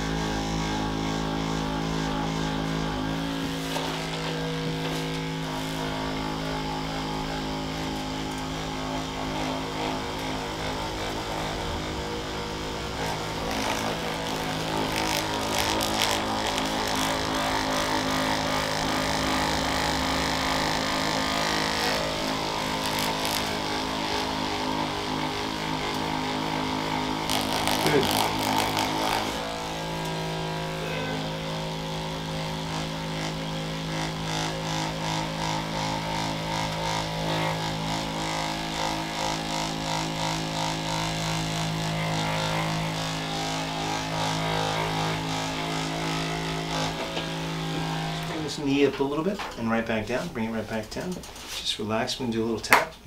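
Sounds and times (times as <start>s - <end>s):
massage gun motor hum: 0.0s - 51.4s.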